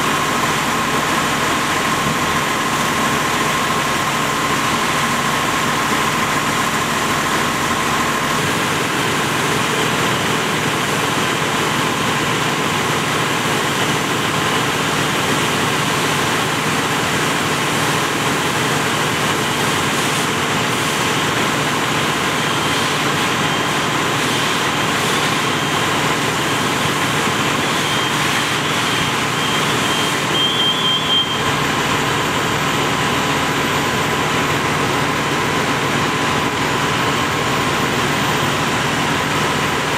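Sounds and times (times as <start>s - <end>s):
fire engine pump running: 0.0s - 39.9s.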